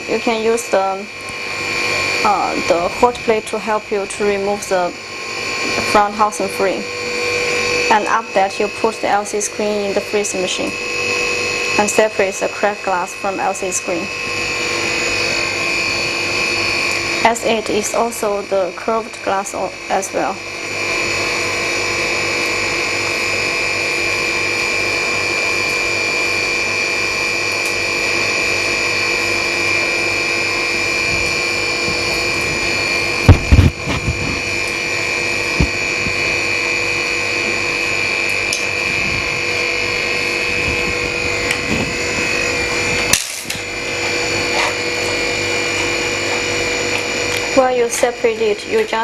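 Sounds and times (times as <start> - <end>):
machine electric whine: 0.0 - 49.0.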